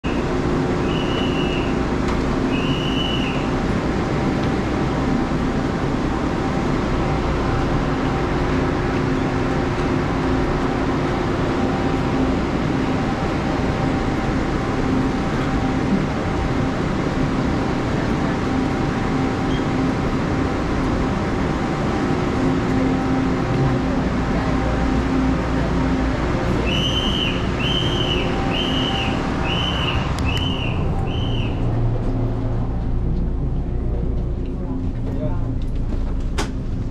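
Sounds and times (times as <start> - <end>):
machinery hum: 0.0 - 36.9.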